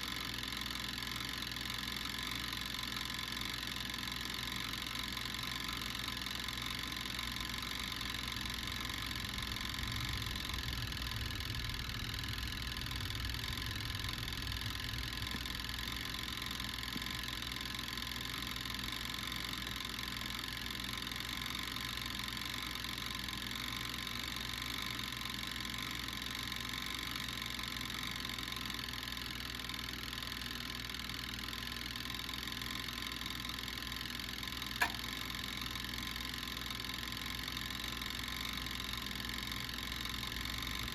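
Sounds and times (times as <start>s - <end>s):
mechanical hum with whining tones: 0.0s - 40.9s.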